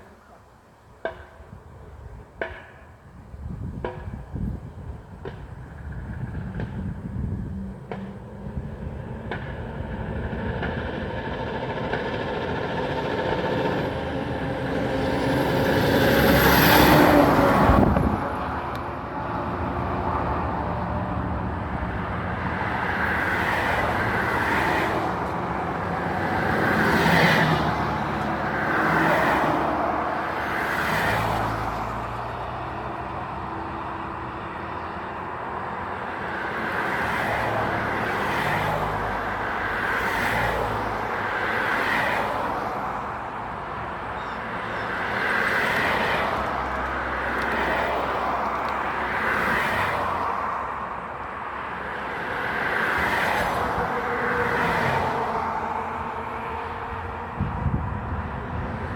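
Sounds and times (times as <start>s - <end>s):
road traffic passing: 0.0s - 58.9s
heavy vehicle passing: 5.2s - 58.9s.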